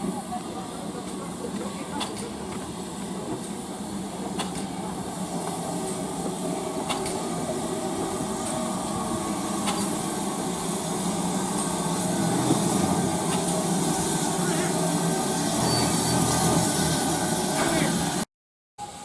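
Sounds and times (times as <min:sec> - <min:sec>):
train rumbling: 0:00.0 - 0:18.2.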